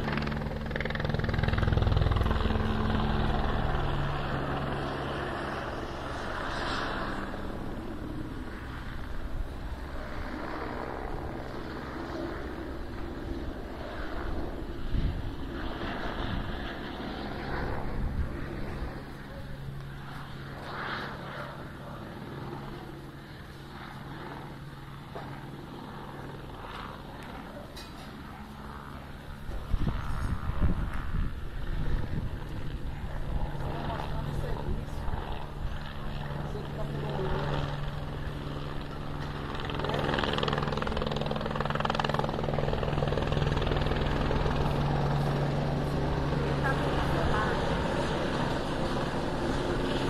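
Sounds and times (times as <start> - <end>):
distant helicopter drone: 0.0 - 50.0.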